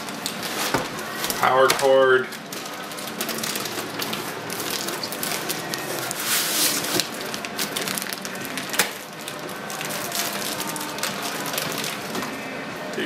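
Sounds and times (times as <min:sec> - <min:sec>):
cardboard and foam rustling: 0:00.0 - 0:12.5.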